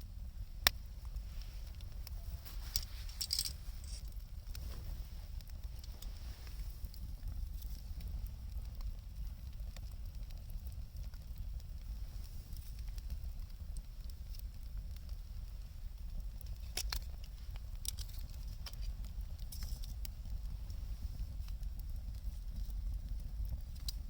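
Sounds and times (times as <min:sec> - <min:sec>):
fire low rumble: 0:00.0 - 0:24.0
wood fire crackling: 0:00.0 - 0:24.0.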